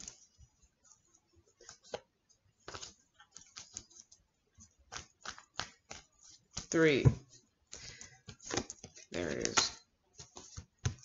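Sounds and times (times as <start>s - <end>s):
cards being shuffled: 1.6s - 11.0s.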